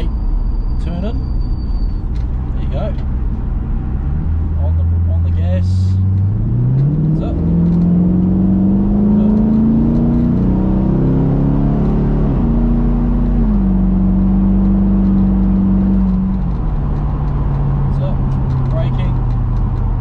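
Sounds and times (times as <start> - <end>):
car engine under throttle: 0.0 - 20.0.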